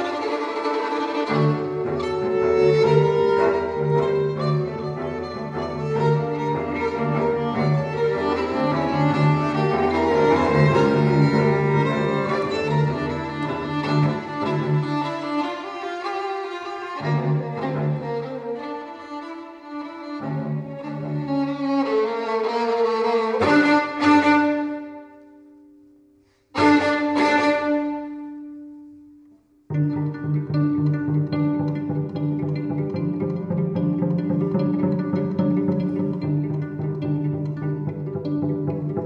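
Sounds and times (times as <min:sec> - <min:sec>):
cello bowing low notes: 0:00.0 - 0:25.5, 0:26.5 - 0:39.0
string trio playing chords: 0:00.0 - 0:39.0
violin and viola sustained lines: 0:00.0 - 0:39.0.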